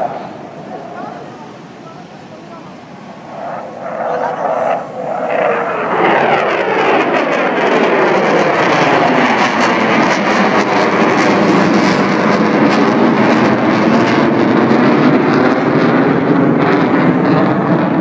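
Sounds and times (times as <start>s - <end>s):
jet flying overhead: 0.0s - 18.0s.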